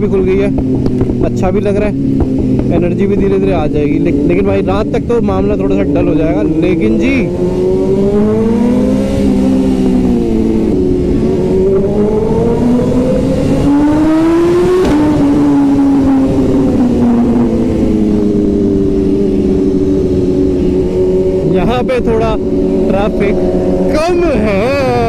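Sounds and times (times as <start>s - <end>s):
motorcycle engine revving: 0.0s - 25.0s
wind rush: 0.0s - 25.0s.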